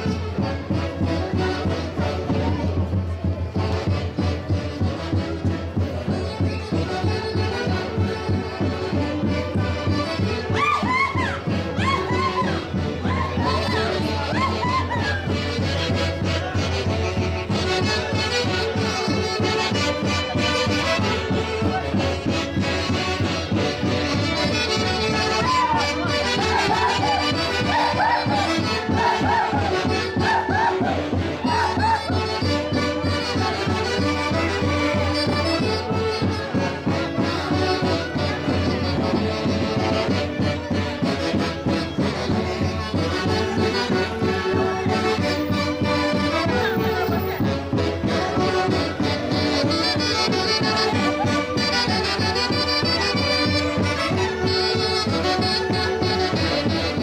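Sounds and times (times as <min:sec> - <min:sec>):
band playing lively dance music: 0:00.0 - 0:57.0.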